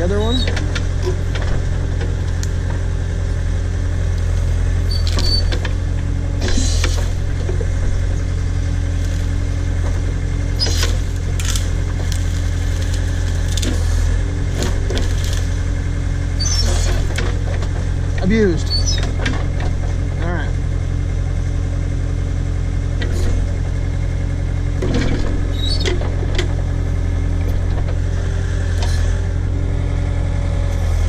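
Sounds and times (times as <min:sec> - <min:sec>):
backhoe engine running: 0:00.0 - 0:31.0.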